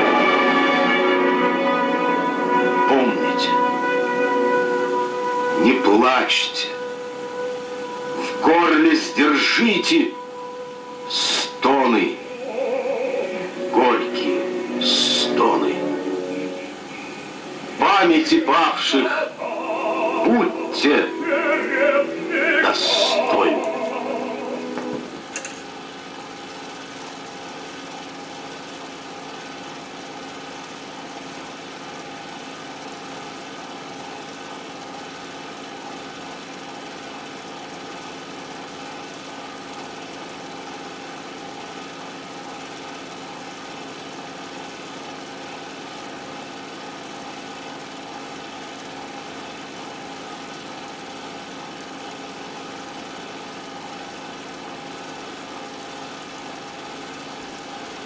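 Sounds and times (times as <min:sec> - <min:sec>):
mechanical drone humming: 0:00.0 - 0:58.0.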